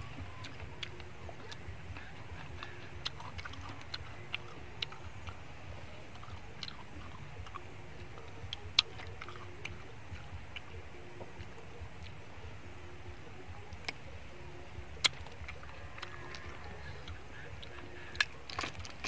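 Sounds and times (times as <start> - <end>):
chewing: 0.0 - 12.2, 15.0 - 19.0.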